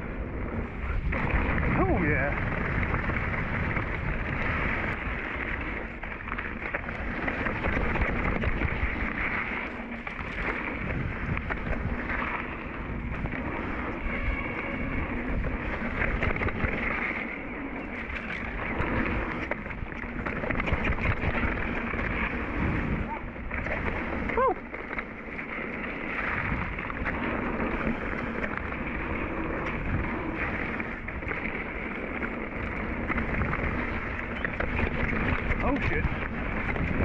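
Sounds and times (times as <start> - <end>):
bike tyres rolling on dirt trail: 0.0 - 37.0
wind buffeting microphone: 0.0 - 37.0.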